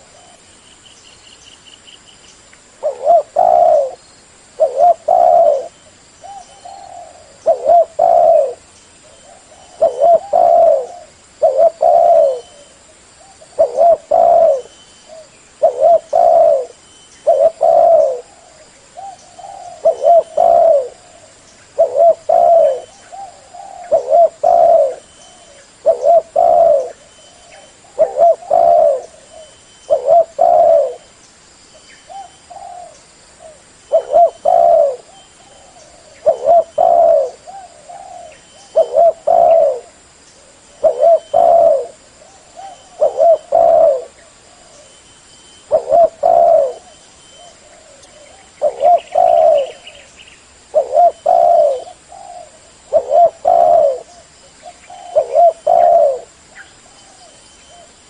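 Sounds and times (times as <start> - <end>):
dove cooing: 0.0 - 0.4, 2.8 - 4.0, 4.6 - 31.1, 32.1 - 45.0, 45.6 - 50.1, 50.7 - 58.0.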